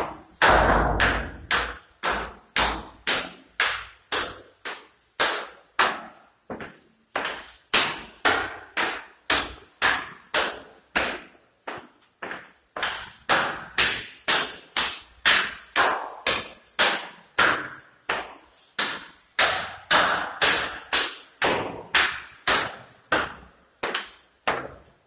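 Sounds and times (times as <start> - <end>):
echoing footsteps on hard stairs: 0.0 - 25.0.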